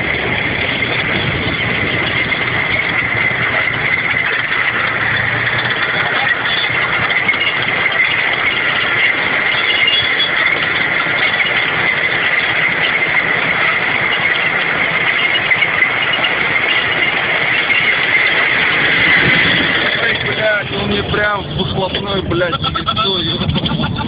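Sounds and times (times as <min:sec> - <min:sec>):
high whine: 0:00.0 - 0:24.0
tank engine and running gear: 0:00.0 - 0:24.0.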